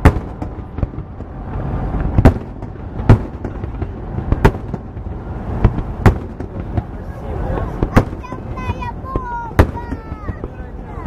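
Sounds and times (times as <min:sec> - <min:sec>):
firework shells bursting: 0:00.0 - 0:10.7
low rumble: 0:00.0 - 0:11.0
small firework cracks: 0:00.0 - 0:11.0.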